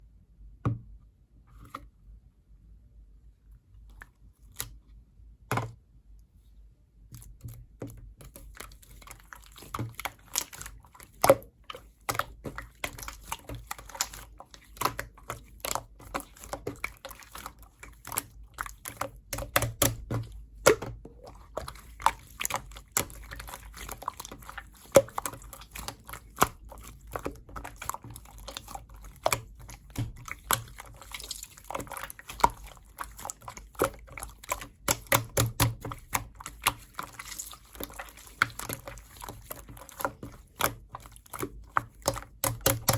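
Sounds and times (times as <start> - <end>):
slime squished by hand: 7.2 - 42.9.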